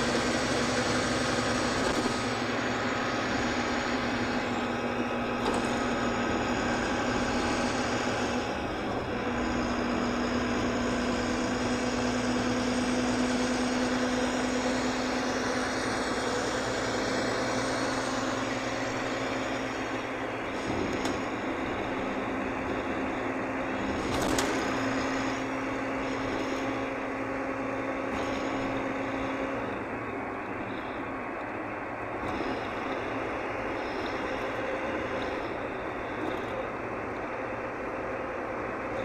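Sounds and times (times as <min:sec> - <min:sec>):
diesel coach engine drone: 0:00.0 - 0:39.0
road noise: 0:00.0 - 0:39.0.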